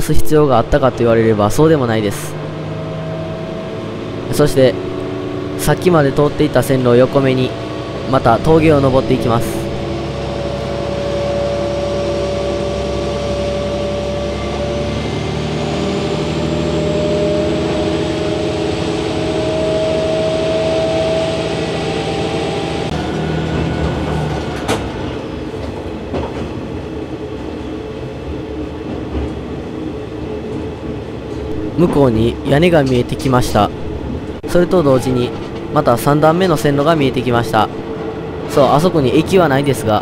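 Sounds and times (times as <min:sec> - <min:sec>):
diesel railcar engine: 0:00.0 - 0:40.0
train wheels on rails: 0:01.6 - 0:40.0.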